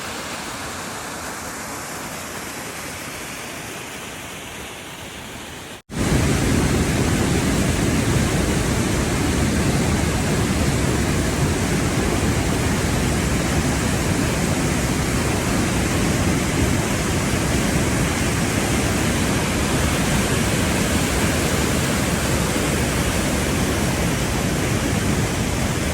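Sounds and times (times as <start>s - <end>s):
waterfall rushing: 0.0s - 25.9s.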